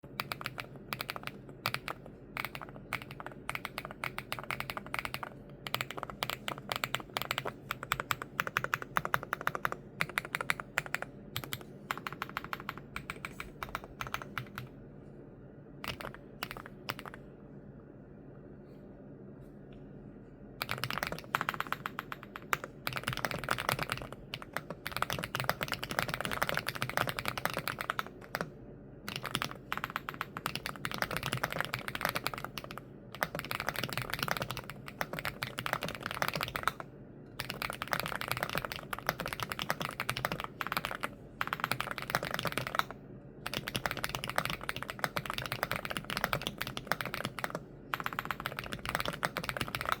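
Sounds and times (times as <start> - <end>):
fast mechanical keyboard typing: 0.0 - 14.7, 15.8 - 17.2, 20.6 - 28.5, 29.1 - 50.0.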